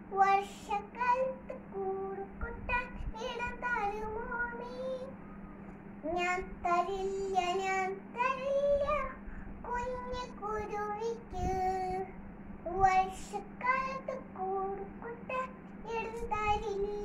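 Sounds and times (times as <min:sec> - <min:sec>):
girl singing: 0:00.0 - 0:17.0
steady low hum: 0:00.0 - 0:17.0.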